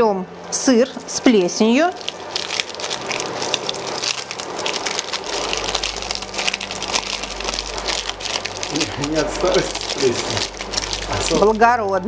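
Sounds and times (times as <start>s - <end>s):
foil wrapper crinkling: 0.8s - 12.0s.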